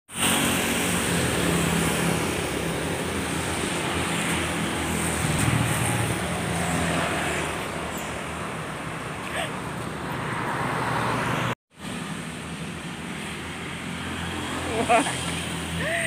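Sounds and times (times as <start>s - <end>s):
road traffic hiss: 0.1s - 16.0s.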